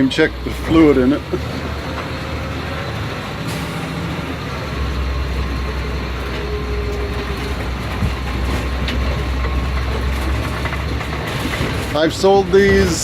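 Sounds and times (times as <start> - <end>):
bus diesel engine rumble: 0.0 - 13.0.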